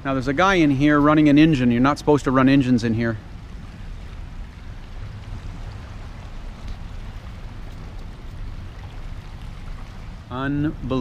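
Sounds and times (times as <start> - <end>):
boat engine rumbling: 0.0 - 11.0
water washing: 0.0 - 11.0.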